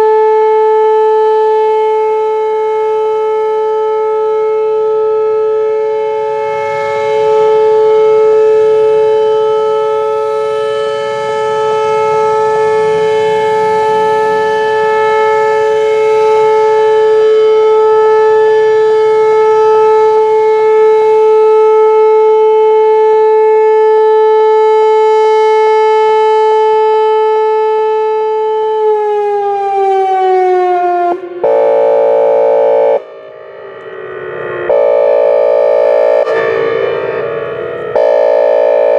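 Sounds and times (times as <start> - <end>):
siren air-horn blast: 0.0 - 38.9
warning siren steady tone: 0.0 - 38.9.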